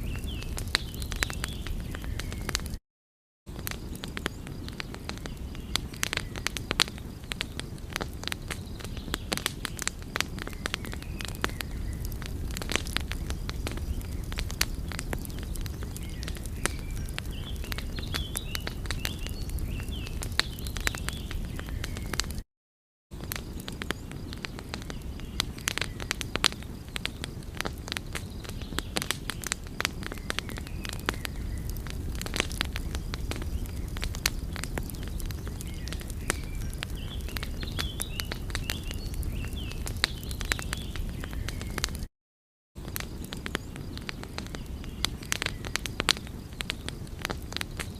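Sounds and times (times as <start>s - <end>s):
wood fire crackling and popping: 0.0s - 2.8s, 3.5s - 22.4s, 23.2s - 42.1s, 42.8s - 47.9s.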